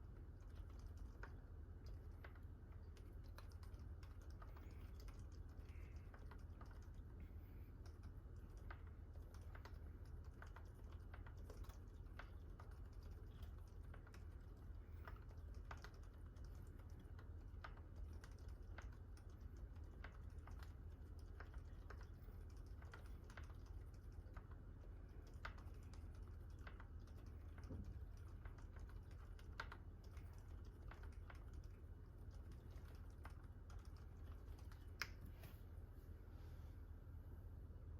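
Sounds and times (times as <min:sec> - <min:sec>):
soft keyboard keystrokes: 0:00.0 - 0:35.5
steady low hum: 0:00.0 - 0:37.9.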